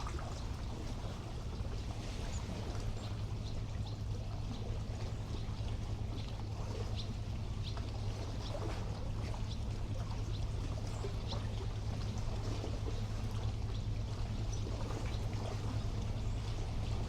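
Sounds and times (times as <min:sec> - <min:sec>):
sea water lapping at shore: 0:00.0 - 0:17.0.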